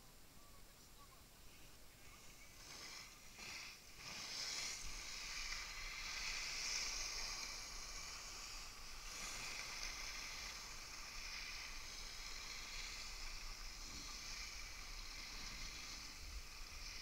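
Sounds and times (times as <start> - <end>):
skis hissing over snow: 1.5 - 17.0.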